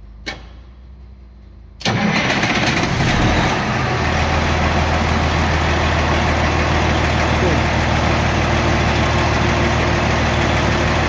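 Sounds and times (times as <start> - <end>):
diesel engine starting and idling: 1.7 - 11.0.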